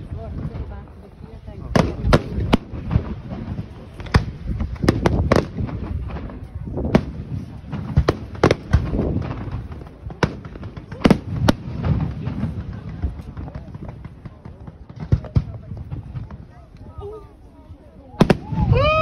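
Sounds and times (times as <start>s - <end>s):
fireworks bursting bangs: 0.0s - 17.4s, 18.1s - 19.0s.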